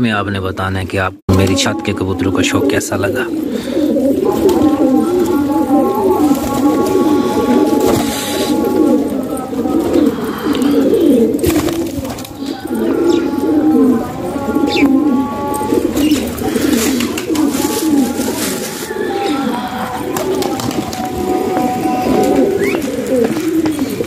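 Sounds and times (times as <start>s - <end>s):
pigeons cooing: 1.3s - 24.0s.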